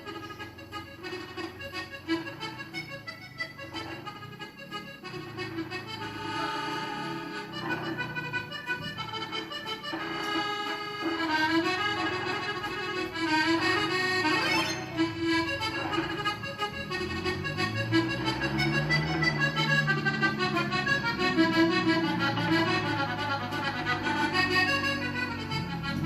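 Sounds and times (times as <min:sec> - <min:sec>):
accordion melody: 0:00.0 - 0:26.0.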